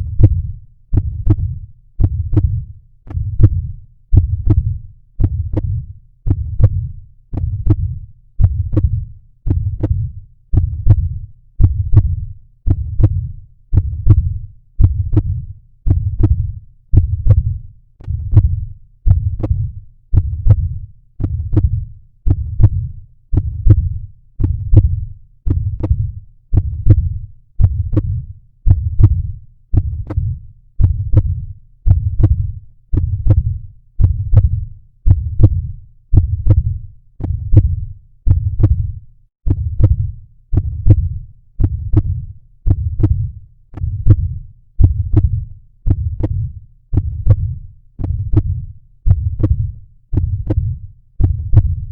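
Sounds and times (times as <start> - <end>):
heartbeat thuds: 0.0 - 51.9.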